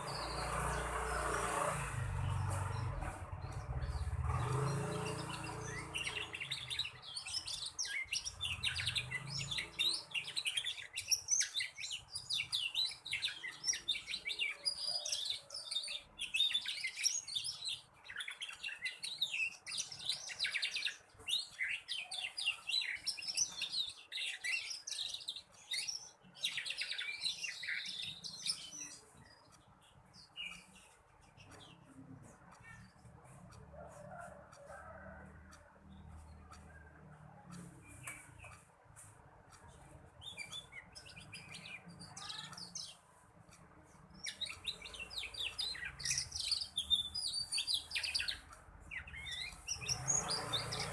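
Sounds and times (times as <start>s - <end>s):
canary twittering: 0.0s - 35.1s, 39.6s - 43.2s, 43.8s - 50.9s.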